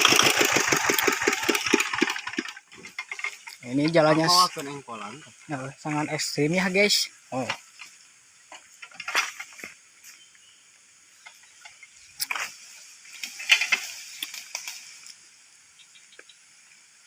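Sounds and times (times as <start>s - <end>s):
plough tractor dragged on dirt: 0.0s - 10.2s, 11.2s - 15.2s.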